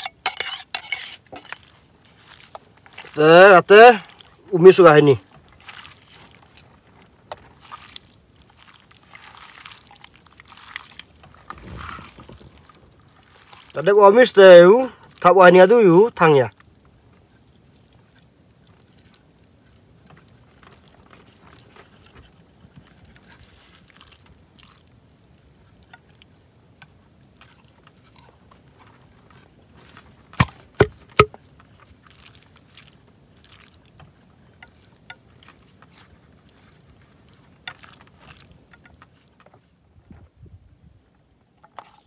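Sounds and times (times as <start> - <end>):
wet squelching and rustling: 0.0 - 14.2, 16.5 - 39.6.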